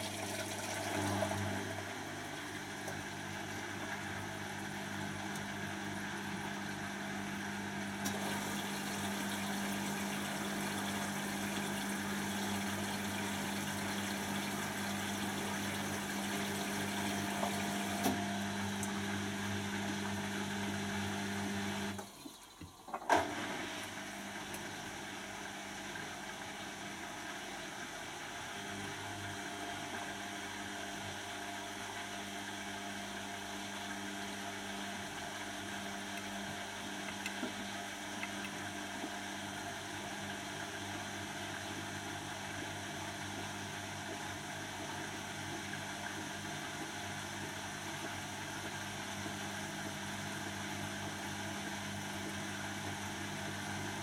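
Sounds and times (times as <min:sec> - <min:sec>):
washing machine drain pump humming: 0:00.0 - 0:54.0
washing machine spinning: 0:00.0 - 0:54.0.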